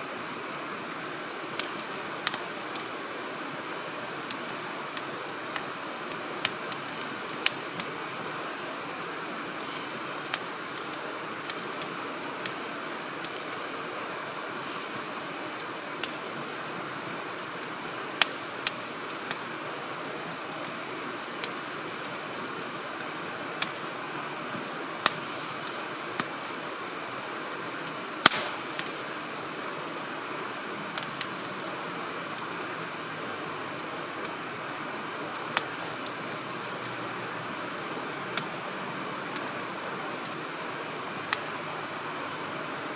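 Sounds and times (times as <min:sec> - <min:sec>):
campfire crackling and popping: 0:00.0 - 0:42.9
steady hiss: 0:00.0 - 0:42.9.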